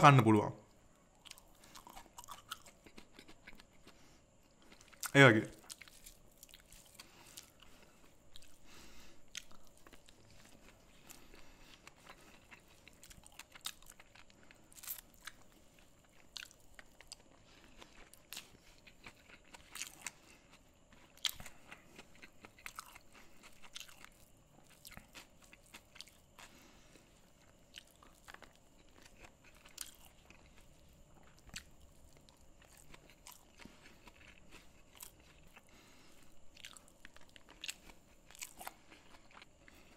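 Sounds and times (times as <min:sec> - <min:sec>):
crunching crisp food: 0:00.0 - 0:39.9
quiet chewing: 0:00.6 - 0:39.9.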